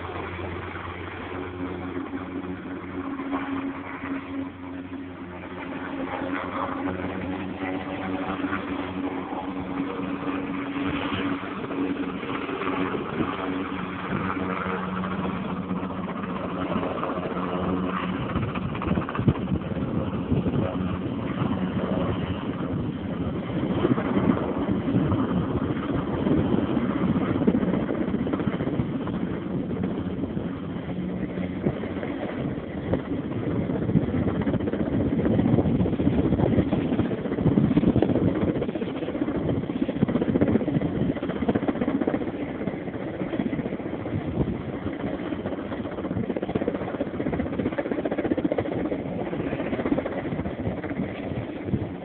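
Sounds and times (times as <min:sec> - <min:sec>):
helicopter main rotor beating: 0:00.0 - 0:52.0
turboshaft engine whine: 0:00.0 - 0:52.0.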